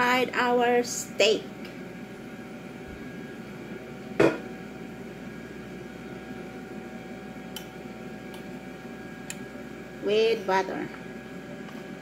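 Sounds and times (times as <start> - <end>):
kitchen appliance hum: 0.0 - 12.0.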